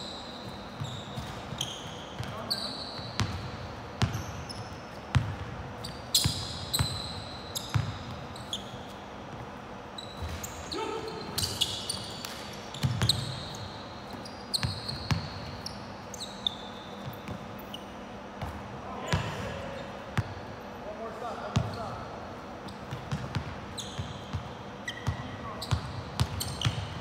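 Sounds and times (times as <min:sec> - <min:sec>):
sneakers squeaking on floor: 0:00.0 - 0:20.7, 0:21.4 - 0:27.0.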